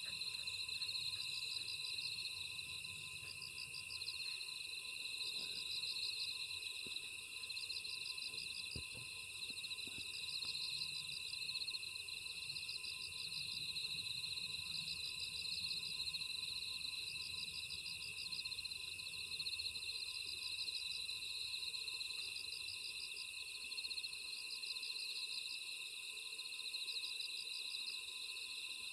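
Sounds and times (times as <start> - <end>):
crickets trilling: 0.0 - 24.2
insect pulsed chirp: 0.0 - 28.9.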